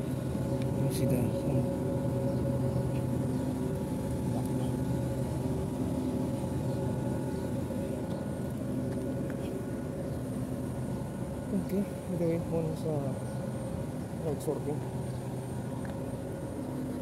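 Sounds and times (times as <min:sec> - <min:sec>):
air conditioning hum: 0:00.0 - 0:17.0.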